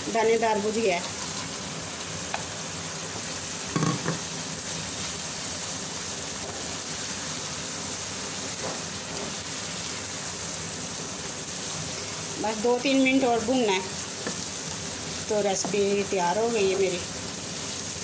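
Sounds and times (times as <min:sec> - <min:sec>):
sauce sizzling in a frying pan: 0:00.0 - 0:18.0.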